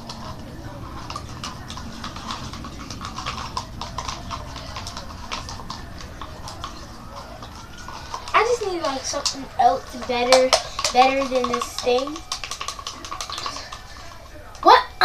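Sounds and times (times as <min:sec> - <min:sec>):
utensil stirring slime in a bowl: 0:00.0 - 0:15.0.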